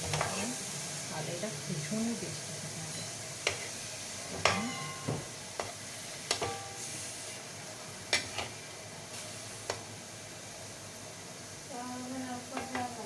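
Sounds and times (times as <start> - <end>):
chicken sizzling in butter: 0.0 - 13.0.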